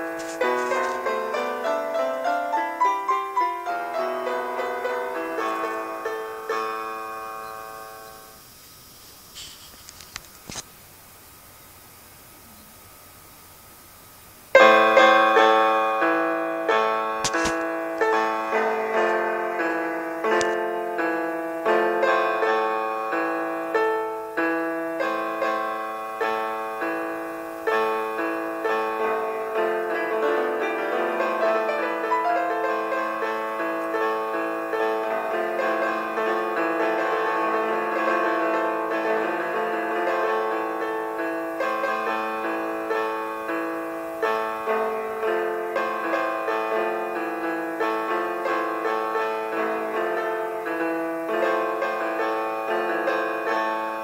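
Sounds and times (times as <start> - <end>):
piano note clusters: 0.0 - 8.6, 14.5 - 54.0.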